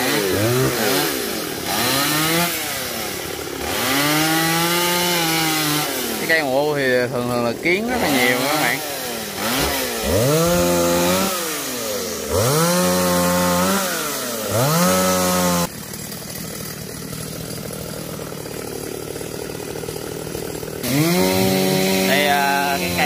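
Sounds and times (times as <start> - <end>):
chainsaw revving: 0.0 - 23.0.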